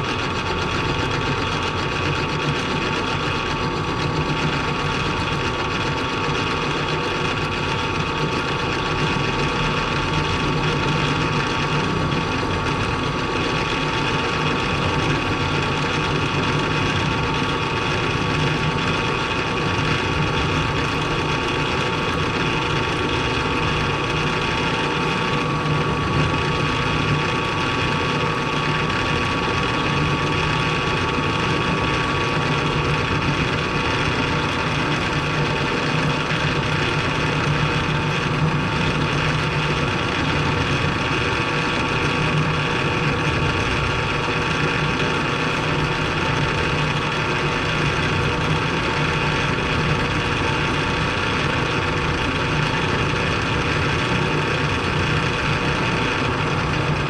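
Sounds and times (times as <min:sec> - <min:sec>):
milling machine whine: 0:00.0 - 0:57.0.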